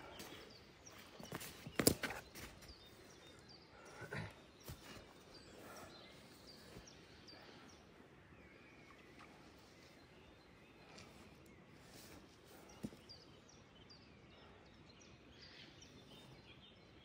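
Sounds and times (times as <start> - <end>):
soft bird chirps: 0.0 - 17.0.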